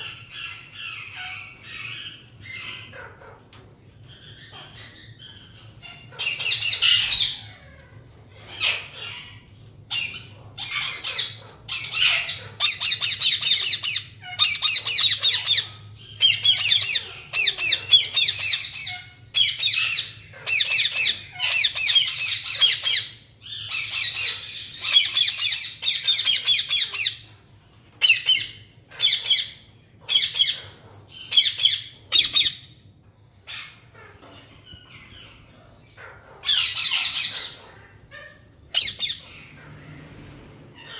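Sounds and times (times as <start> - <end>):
parakeet squawking: 4.1 - 27.3, 28.0 - 32.8, 33.5 - 39.7.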